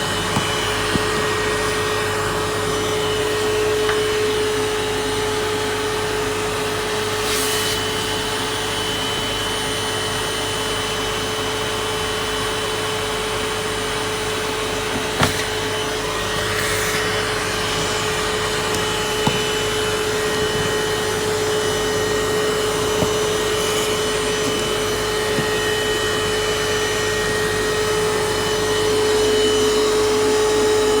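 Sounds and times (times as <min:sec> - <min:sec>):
vacuum cleaner motor running: 0:00.0 - 0:31.0.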